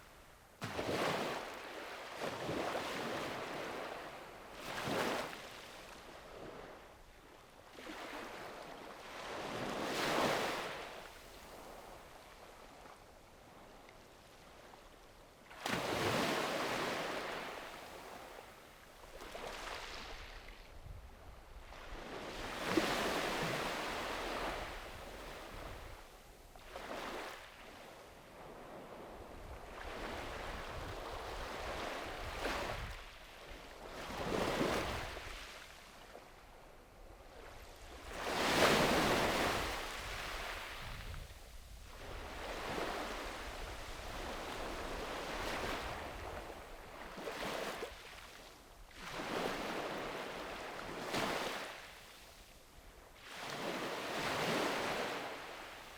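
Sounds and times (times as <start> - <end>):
small waves washing on beach: 0.6 - 52.5, 53.1 - 55.9.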